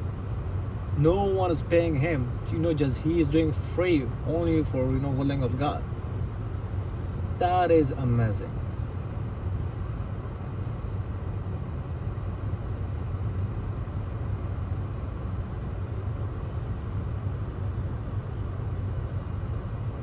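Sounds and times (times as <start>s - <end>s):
low rumble of outdoor background: 0.0s - 20.0s.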